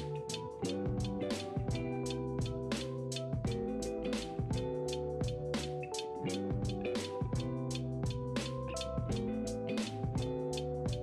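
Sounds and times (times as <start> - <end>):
instrumental music with drum beat: 0.0 - 11.0.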